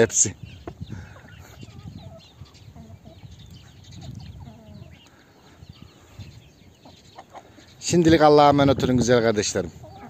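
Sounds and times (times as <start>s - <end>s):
chickens clucking: 0.0s - 10.0s
high chirping calls: 0.0s - 10.0s.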